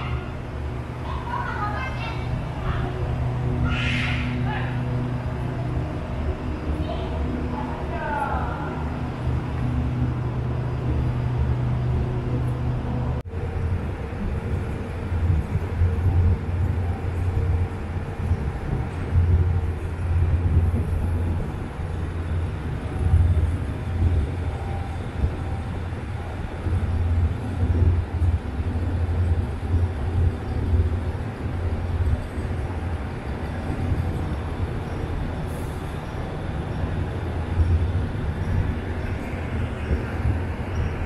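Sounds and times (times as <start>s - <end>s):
diesel train rumbling: 0.0s - 41.0s.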